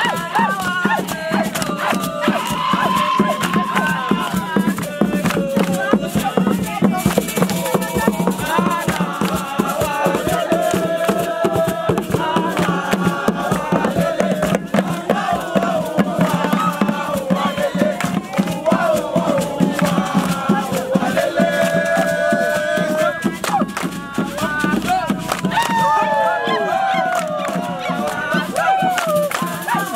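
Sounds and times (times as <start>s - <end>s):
group of voices chanting: 0.0s - 29.9s
rapid percussion: 0.0s - 29.9s.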